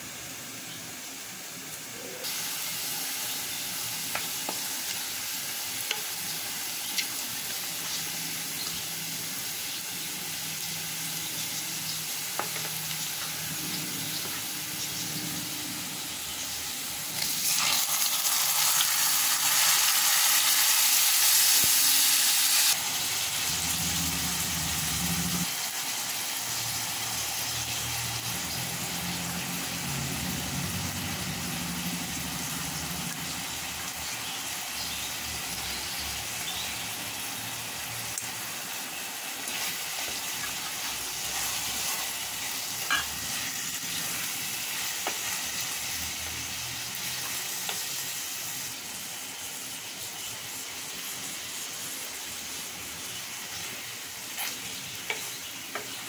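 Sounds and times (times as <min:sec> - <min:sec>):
onions sizzling in hot oil: 0:00.0 - 0:56.0.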